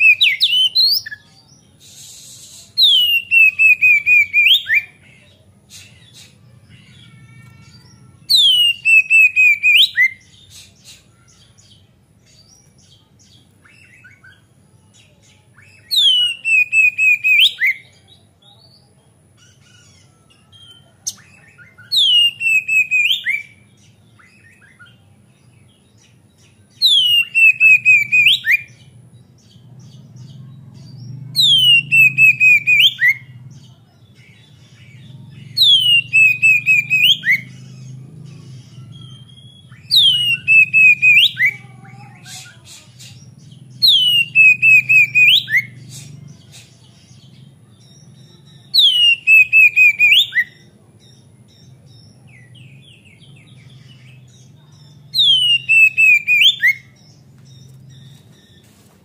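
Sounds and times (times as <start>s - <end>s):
bird singing rapid descending notes: 0.0s - 58.7s
soft bird twittering: 0.0s - 59.0s.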